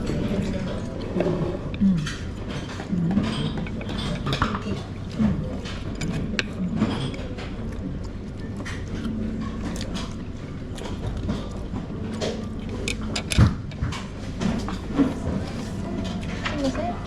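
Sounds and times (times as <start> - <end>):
faint voices: 0.0 - 13.2, 14.4 - 17.0
dishes and utensils clinking: 0.0 - 17.0.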